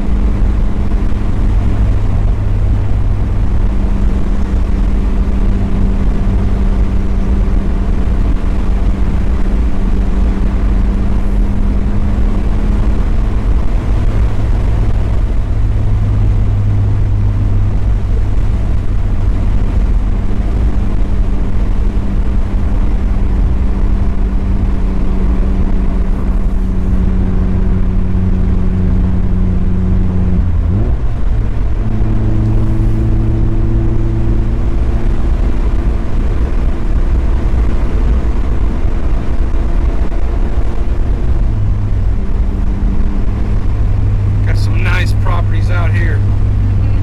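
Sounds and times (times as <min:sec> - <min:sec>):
car engine cruising: 0:00.0 - 0:47.0
road rumble: 0:00.0 - 0:47.0.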